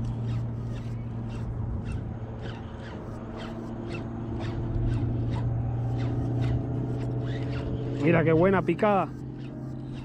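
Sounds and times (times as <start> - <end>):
steady low hum: 0.0 - 10.0
birds harsh downward calls: 0.1 - 10.0.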